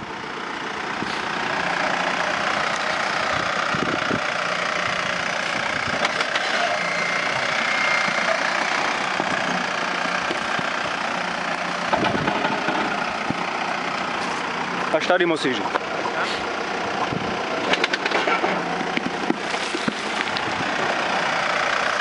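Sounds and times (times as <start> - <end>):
engine running at low revs: 0.0 - 22.0.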